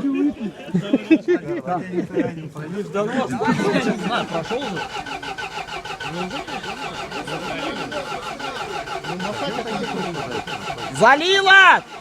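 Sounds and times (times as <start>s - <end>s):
engine cranking by starter: 2.1s - 12.0s.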